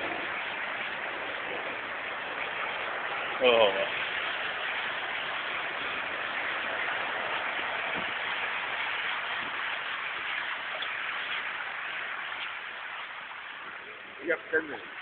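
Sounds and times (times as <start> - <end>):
heavy rain on water: 0.0 - 15.0.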